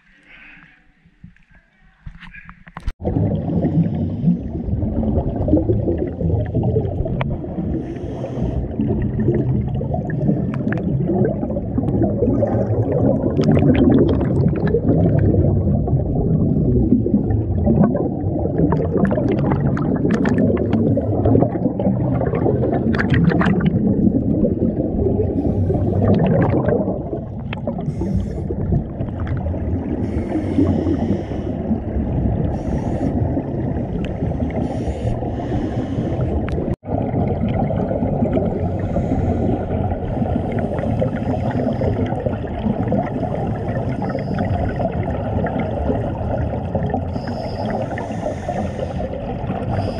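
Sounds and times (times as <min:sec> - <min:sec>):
low underwater rumble: 0:00.9 - 0:49.9
diver exhaling bubbles: 0:02.3 - 0:49.9.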